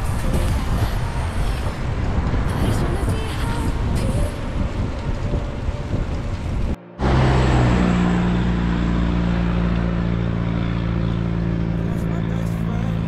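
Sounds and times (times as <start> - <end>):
rough noisy rumble: 0.0 - 13.0
vehicle engine running: 0.0 - 13.0.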